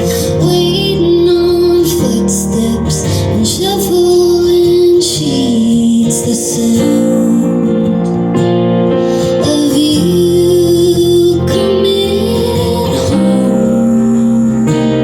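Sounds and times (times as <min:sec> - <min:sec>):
woman singing: 0:00.0 - 0:08.3, 0:09.2 - 0:15.0
acoustic instrumental accompaniment: 0:00.0 - 0:15.0.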